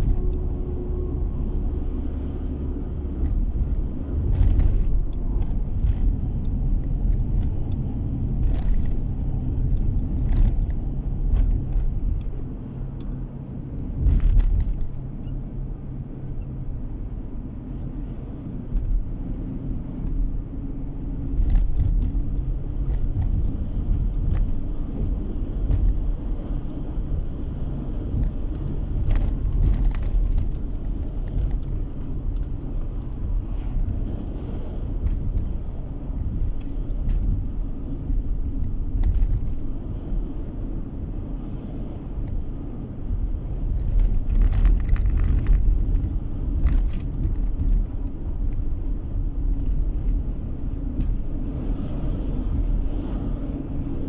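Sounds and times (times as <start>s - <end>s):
car tyre and engine rumble: 0.0s - 54.0s.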